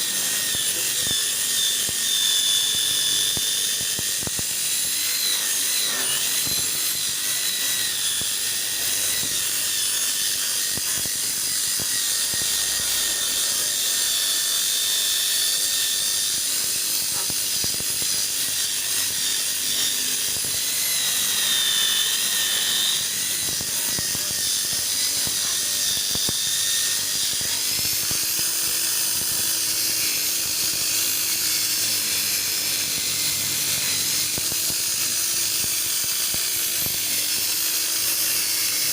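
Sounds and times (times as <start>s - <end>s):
electric polishing machine whining: 0.0s - 38.9s.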